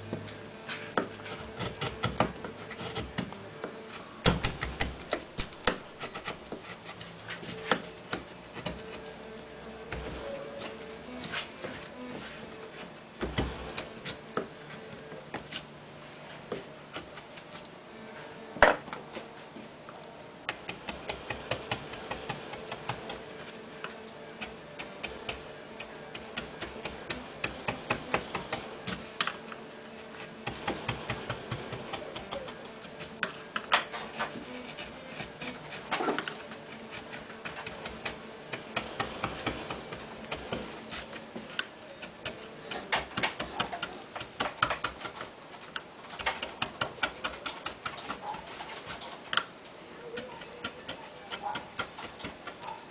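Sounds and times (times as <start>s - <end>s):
faint steady hum: 0.0s - 52.9s
gouges cutting wood: 0.5s - 17.7s, 20.5s - 49.3s.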